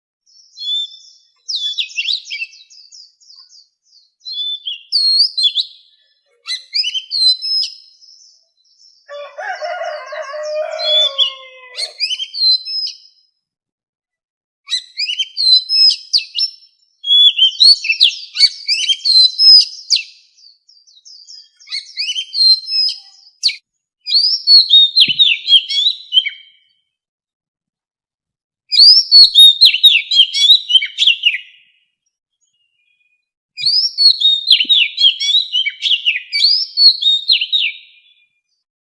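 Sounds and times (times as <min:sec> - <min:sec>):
bird singing whistled notes: 0:00.3 - 0:09.3, 0:09.9 - 0:13.3, 0:14.7 - 0:26.8, 0:28.7 - 0:38.3.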